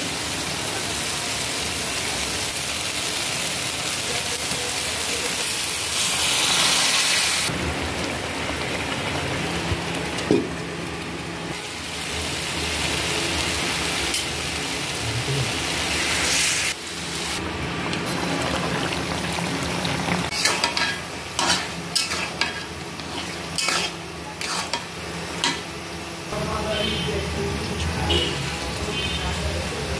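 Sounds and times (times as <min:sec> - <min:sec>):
masala sizzling in pan: 0:00.0 - 0:29.9.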